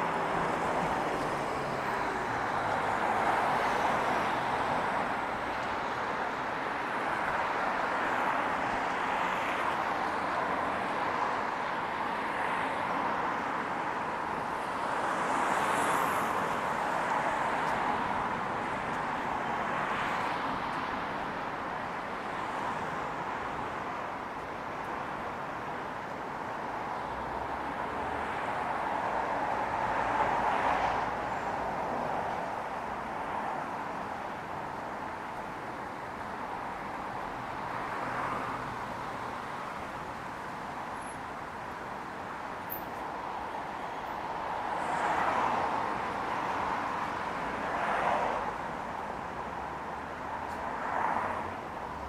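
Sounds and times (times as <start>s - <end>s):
street traffic noise: 0.0s - 52.0s
vehicles passing: 0.0s - 52.0s.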